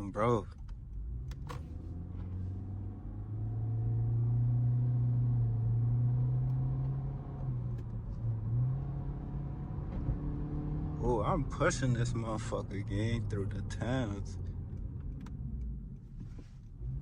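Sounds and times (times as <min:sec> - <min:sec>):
car cabin engine and road drone: 0:00.0 - 0:17.0.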